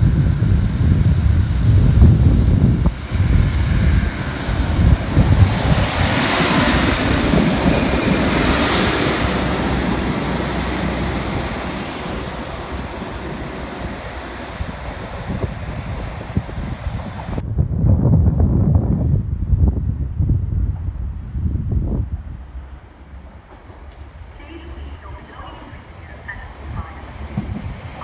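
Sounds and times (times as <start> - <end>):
wheel and rail noise: 0.0 - 17.4, 22.1 - 28.0
diesel train passing: 0.0 - 28.0
wind buffeting microphone: 0.0 - 28.0.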